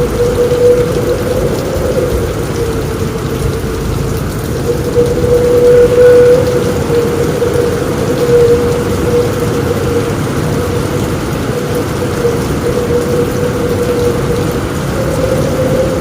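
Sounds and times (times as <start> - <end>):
heavy rain drumming on a roof: 0.0 - 16.0
low thunder rumble: 0.0 - 16.0
wavering hum: 0.0 - 16.0.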